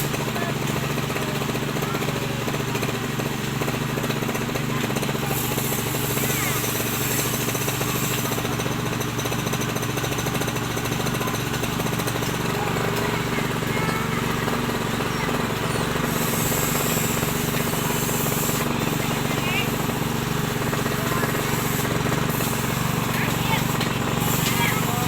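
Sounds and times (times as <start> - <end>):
cultivator engine running: 0.0 - 25.0.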